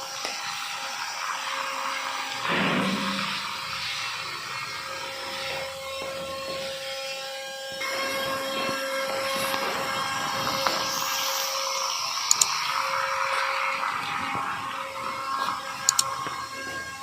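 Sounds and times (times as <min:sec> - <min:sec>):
small toy motor whining: 0:00.0 - 0:17.0.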